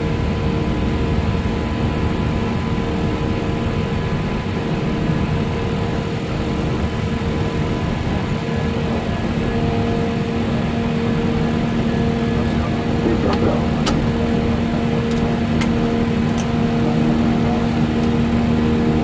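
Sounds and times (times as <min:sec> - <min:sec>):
airliner cockpit rushing and hum: 0:00.0 - 0:19.0.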